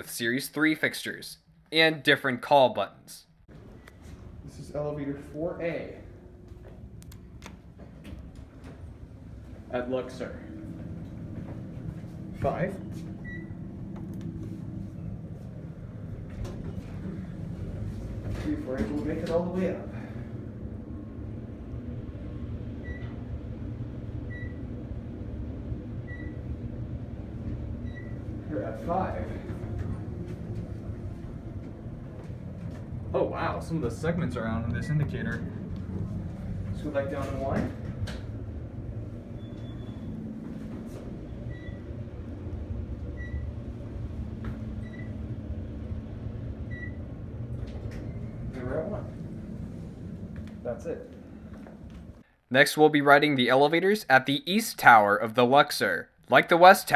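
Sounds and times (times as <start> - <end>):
elevator hum and rumble: 3.4 - 52.3.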